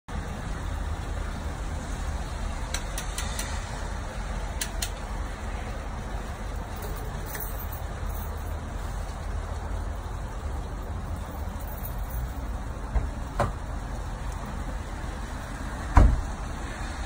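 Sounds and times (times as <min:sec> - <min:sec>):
steady rain falling: 0:00.1 - 0:17.0.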